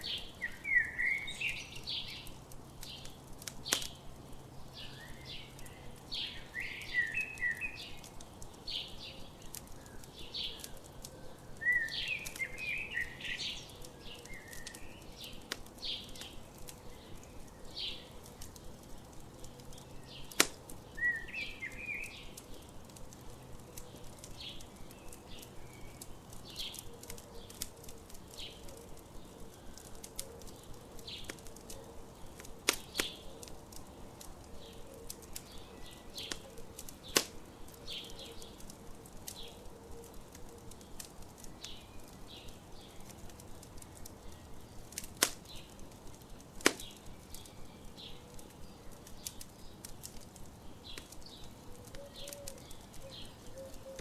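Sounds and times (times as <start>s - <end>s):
campfire crackling: 0.0s - 54.0s
sharp fire pops: 0.0s - 54.0s
songbirds chirping and trilling: 0.0s - 54.0s.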